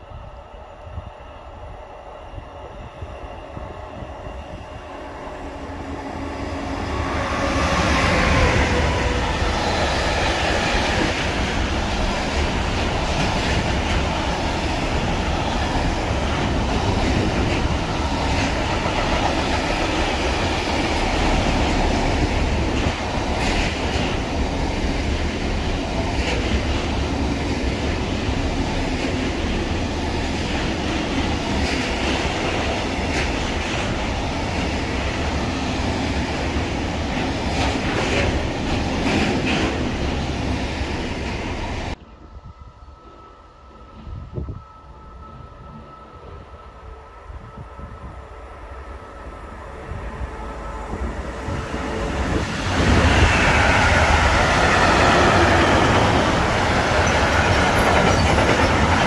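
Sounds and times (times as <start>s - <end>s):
train passing: 0.0s - 59.0s.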